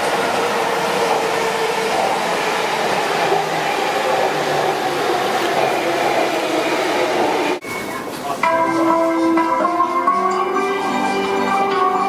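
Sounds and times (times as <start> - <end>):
train wheels rushing on rails: 0.0 - 9.8.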